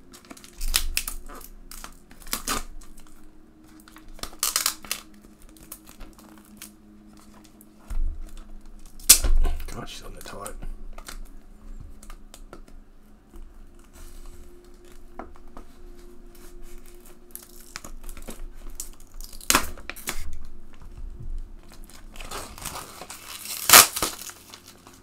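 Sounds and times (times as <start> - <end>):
plastic shrink-wrap crinkling: 0.0 - 25.0.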